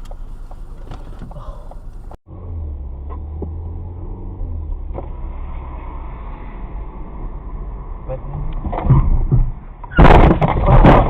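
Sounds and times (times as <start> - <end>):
car driving rumble: 0.0 - 11.0.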